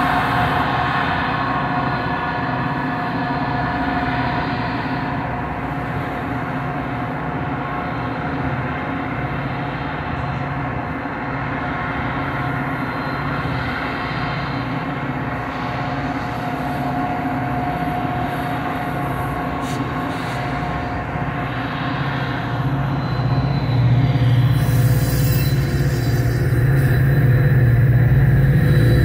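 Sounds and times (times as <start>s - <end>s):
diesel locomotive engine drone: 0.0s - 29.0s
train whine: 0.0s - 29.0s.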